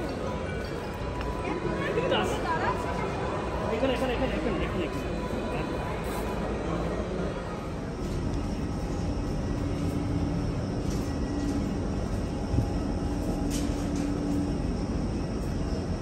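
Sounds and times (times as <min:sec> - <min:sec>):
drone of aircraft and machinery: 0:00.0 - 0:16.0.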